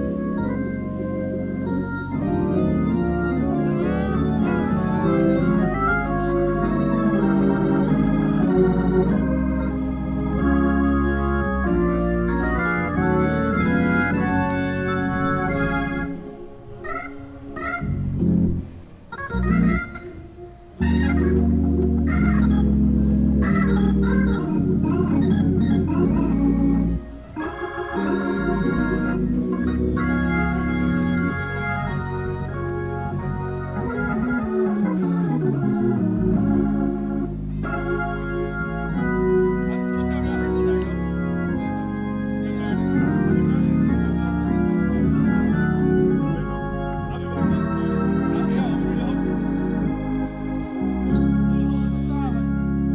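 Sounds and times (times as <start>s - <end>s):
organ playing gospel chords: 0.0s - 52.9s.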